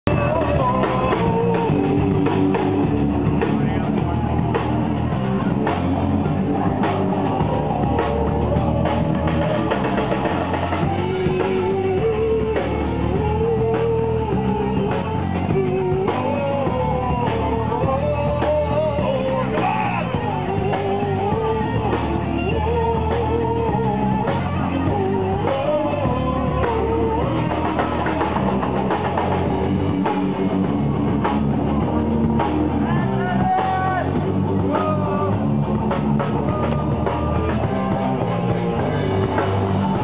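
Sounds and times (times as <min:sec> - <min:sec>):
drum kit: 0:00.0 - 0:40.0
electric guitar: 0:00.0 - 0:40.0
sustained melody line: 0:00.0 - 0:40.0.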